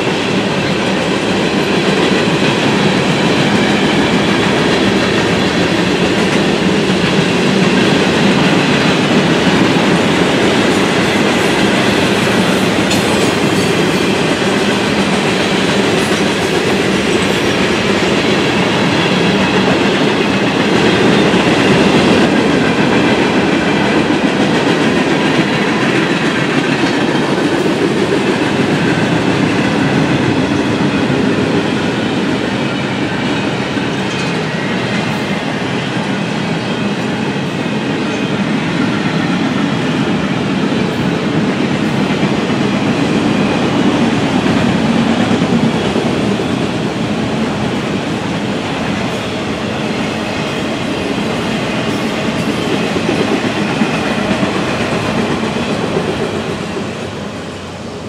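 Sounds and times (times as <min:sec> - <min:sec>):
steel wheels on rail: 0:00.0 - 0:58.0.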